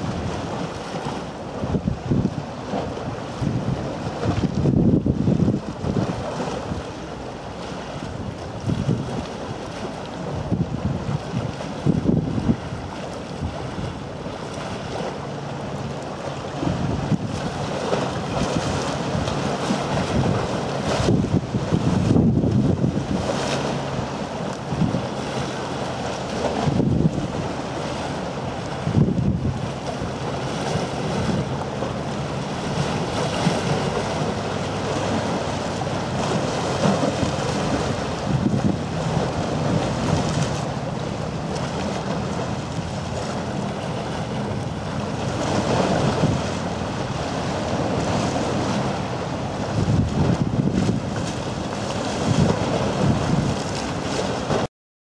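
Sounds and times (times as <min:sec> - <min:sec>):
wind buffeting microphone: 0:00.0 - 0:07.0, 0:07.9 - 0:15.7, 0:16.3 - 0:54.7.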